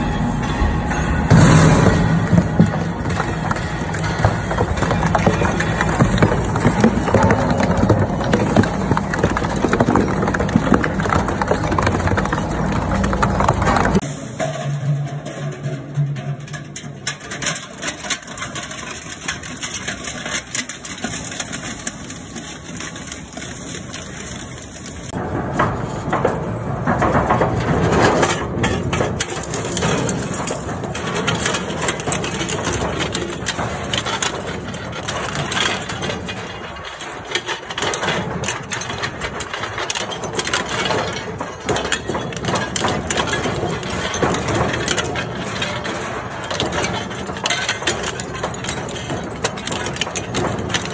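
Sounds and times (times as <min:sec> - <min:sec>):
shredder crushing metal: 0:00.0 - 0:50.9.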